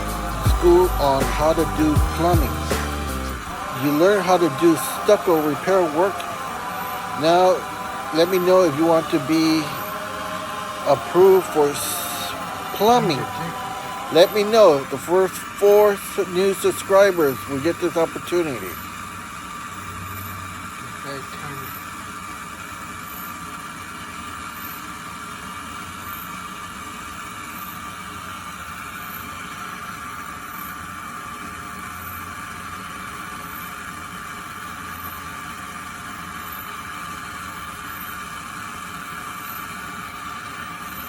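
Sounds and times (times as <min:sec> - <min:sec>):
mechanical hum and whir: 0:00.0 - 0:41.0.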